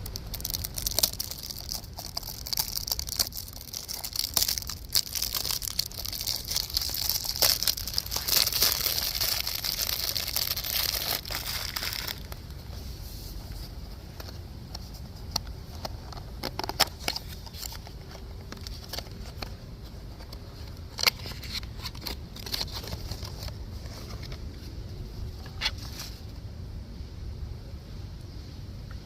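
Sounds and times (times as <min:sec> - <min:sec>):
crackly rustles: 0:00.0 - 0:26.4.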